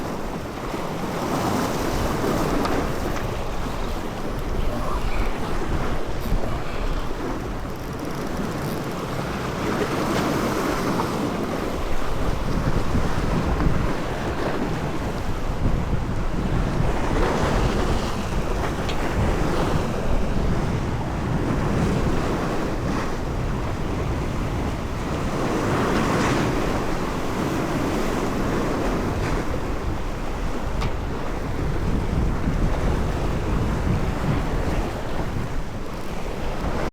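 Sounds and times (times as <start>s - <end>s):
sea waves rushing: 0.0s - 36.9s
wind buffeting microphone: 0.0s - 36.9s.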